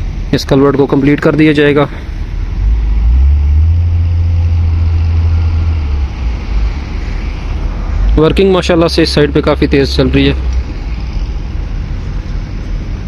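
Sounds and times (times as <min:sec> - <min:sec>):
low vehicle engine rumble: 0:00.0 - 0:13.0.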